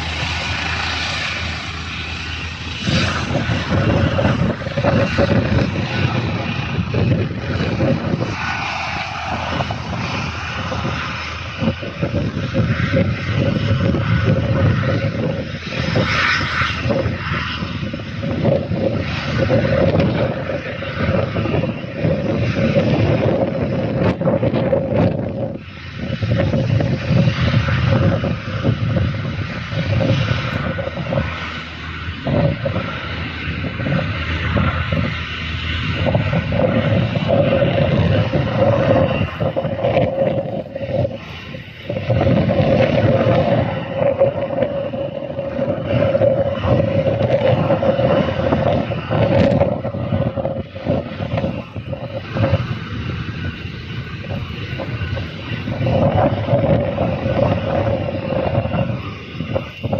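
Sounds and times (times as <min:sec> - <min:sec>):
helicopter engines and rotors: 0:00.0 - 0:59.9
wind buffeting microphone: 0:00.0 - 0:59.9.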